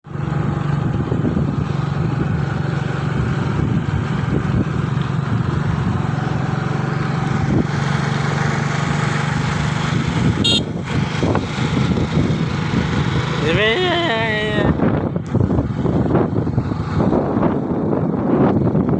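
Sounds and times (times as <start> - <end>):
motorcycle engine running: 0.1 - 18.9.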